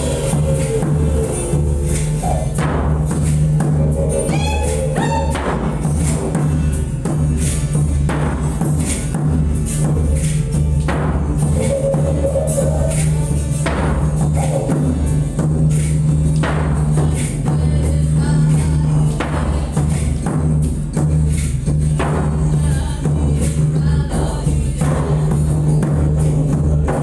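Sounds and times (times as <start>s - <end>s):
didgeridoo drone: 0.0s - 27.0s
drum: 0.0s - 27.0s
jingling percussion: 0.0s - 27.0s.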